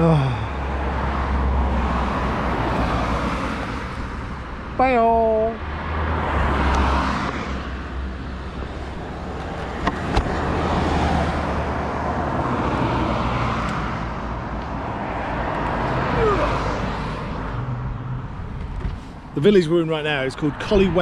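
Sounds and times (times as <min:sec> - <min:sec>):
wind and road noise: 0:00.0 - 0:21.0.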